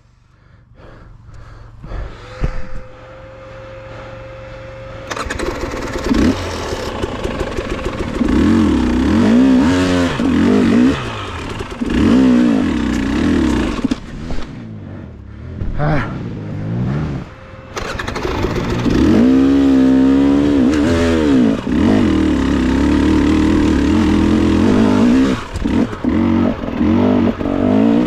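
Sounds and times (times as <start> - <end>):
dirt bike engine revving: 2.0 - 28.0.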